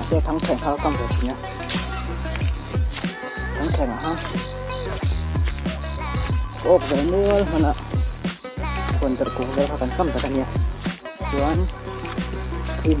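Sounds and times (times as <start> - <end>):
insects droning: 0.0 - 13.0
low thumping beat: 0.0 - 13.0
music and singing: 0.0 - 13.0.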